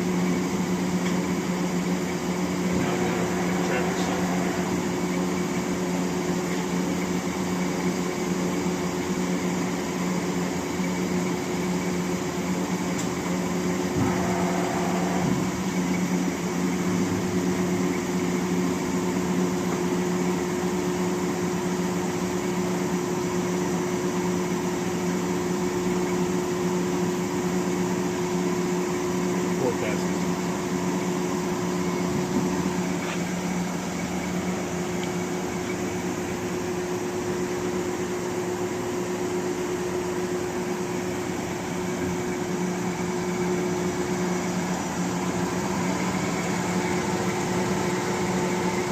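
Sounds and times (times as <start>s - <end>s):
grinder machine hum: 0.0s - 22.6s, 27.3s - 48.9s.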